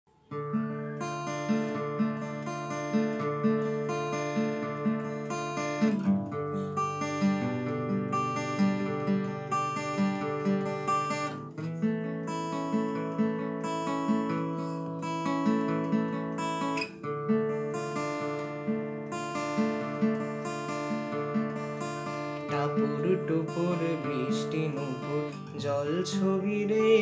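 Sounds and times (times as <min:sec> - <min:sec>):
acoustic guitar pattern: 0:00.1 - 0:27.0.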